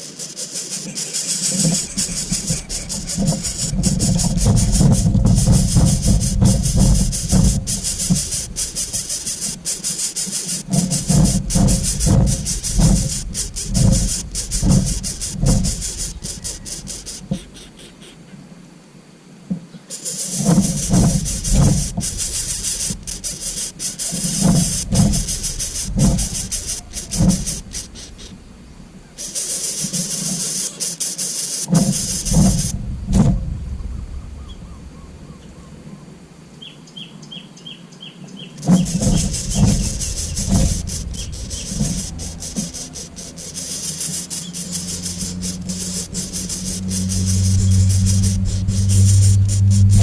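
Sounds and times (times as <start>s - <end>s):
high hiss: 0.0s - 37.4s, 38.5s - 50.0s
deep hollow hooting bird call: 0.5s - 18.4s, 19.8s - 30.8s, 31.9s - 50.0s.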